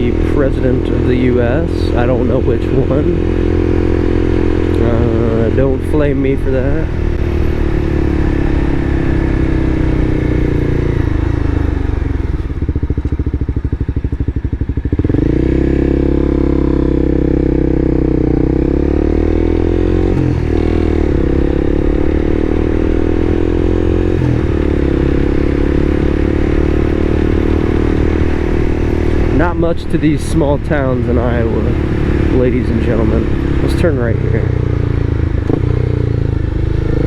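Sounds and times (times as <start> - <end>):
vehicle engine and exhaust: 0.0 - 37.0.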